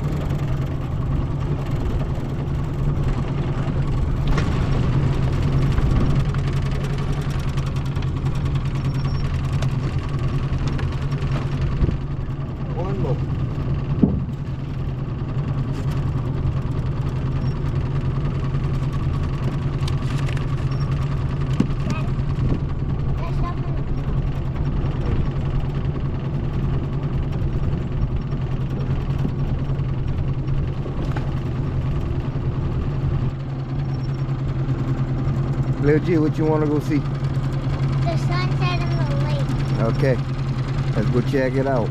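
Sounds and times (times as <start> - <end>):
boat motor running: 0.0 - 41.9.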